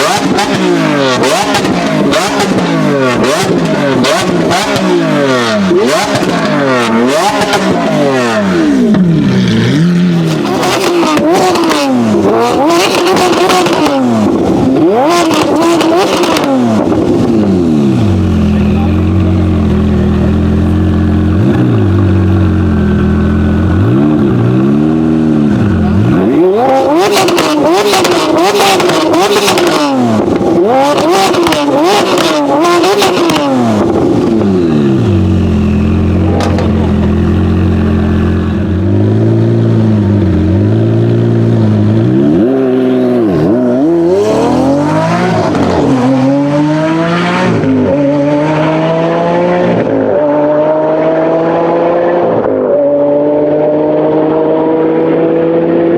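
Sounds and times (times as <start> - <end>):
exhaust crackles: 0.0 - 46.2
car engine revving: 0.0 - 55.9.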